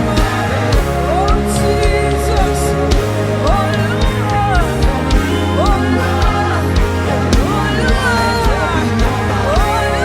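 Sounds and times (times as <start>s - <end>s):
sliding melody line: 0.0s - 10.0s
steady kick drum: 0.0s - 10.0s
worship band music: 0.0s - 10.0s.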